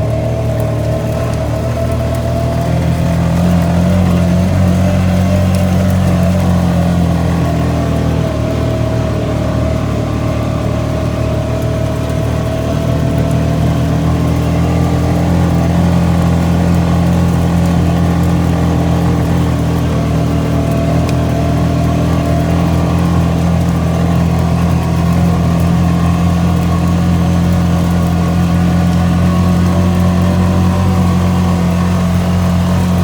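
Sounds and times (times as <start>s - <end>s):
atv engine droning: 0.0s - 33.0s.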